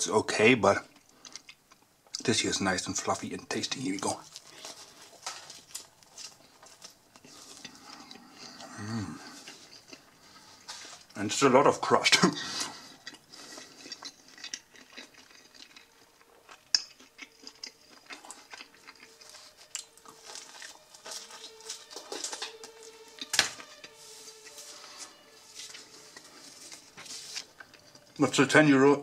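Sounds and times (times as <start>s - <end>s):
person chewing: 0.9s - 2.2s, 3.8s - 11.2s, 12.2s - 28.2s.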